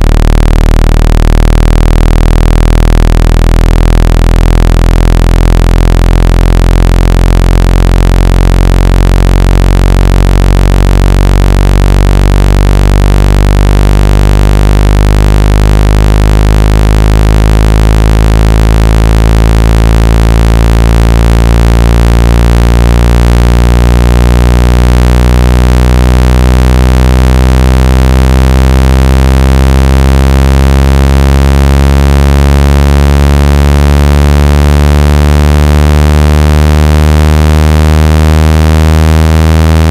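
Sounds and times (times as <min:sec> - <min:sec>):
low synthetic buzzing tone: 0:00.0 - 0:39.9.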